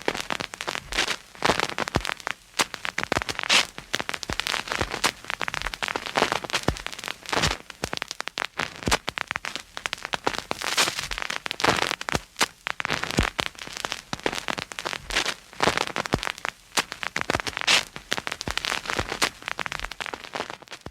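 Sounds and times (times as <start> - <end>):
steady hiss: 0.0 - 20.4
record crackle and pops: 0.0 - 20.9.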